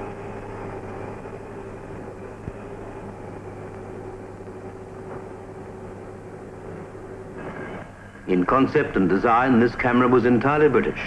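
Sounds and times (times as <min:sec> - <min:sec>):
film soundtrack hiss and hum: 0:00.0 - 0:11.0.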